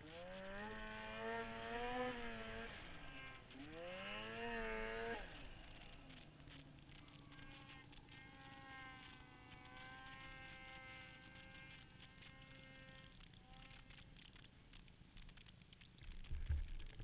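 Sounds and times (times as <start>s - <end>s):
faint snowmobile engine buzz: 0.0s - 17.0s.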